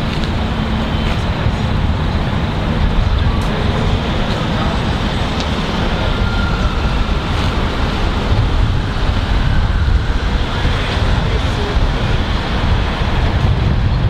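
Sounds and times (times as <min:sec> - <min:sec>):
distant freight train rumble: 0:00.0 - 0:14.0.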